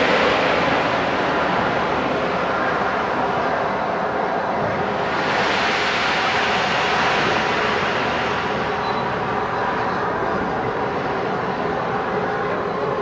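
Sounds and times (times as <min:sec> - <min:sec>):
steam locomotive venting steam: 0:00.0 - 0:13.0.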